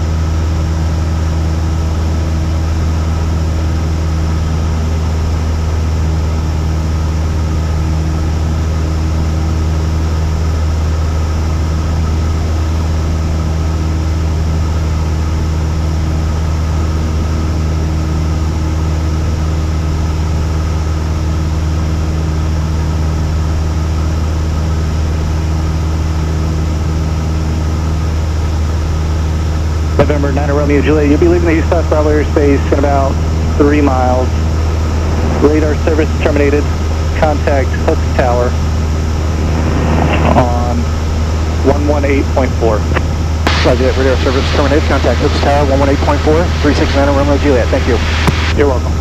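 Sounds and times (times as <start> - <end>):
propeller plane droning in cabin: 0.0 - 49.0.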